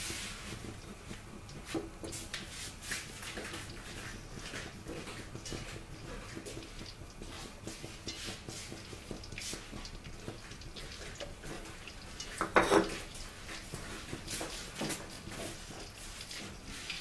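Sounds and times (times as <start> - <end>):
peanuts crackling in oil: 0.0 - 17.0.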